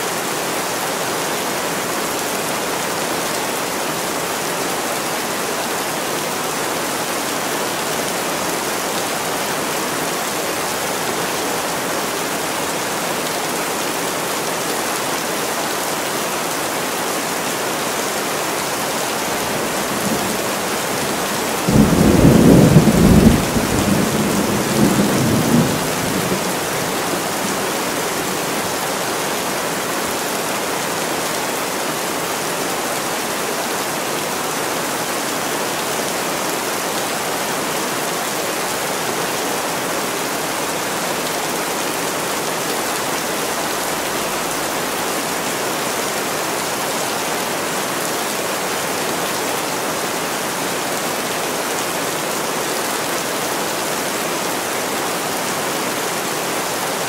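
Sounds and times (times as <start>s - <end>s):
rain falling in a forest: 0.0s - 57.0s.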